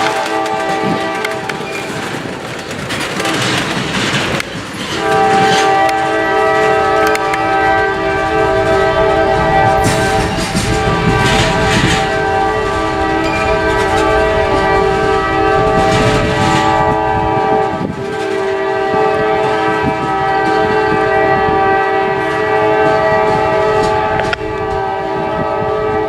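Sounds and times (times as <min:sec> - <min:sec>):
locomotive air horn blast: 0:00.0 - 0:01.6, 0:04.9 - 0:26.0
passing train rumble: 0:00.0 - 0:26.0.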